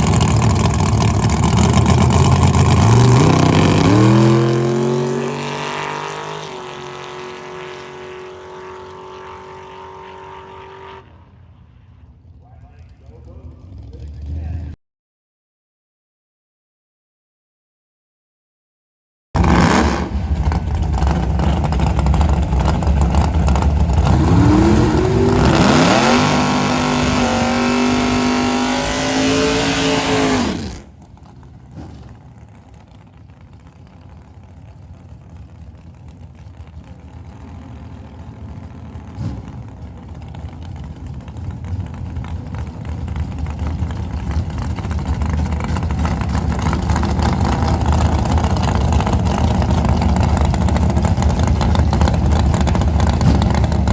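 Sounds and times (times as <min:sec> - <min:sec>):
drag racing cars at full throttle: 0:00.0 - 0:14.8, 0:19.4 - 0:53.9
engine rumble: 0:00.0 - 0:14.8, 0:19.4 - 0:53.9.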